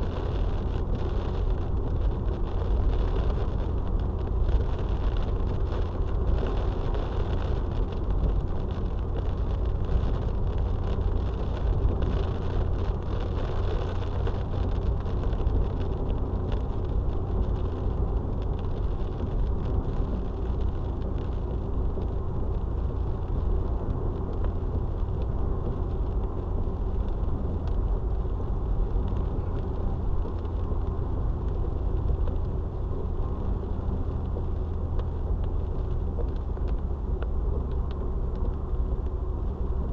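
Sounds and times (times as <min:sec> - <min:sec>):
car road noise from inside: 0:00.0 - 0:39.9.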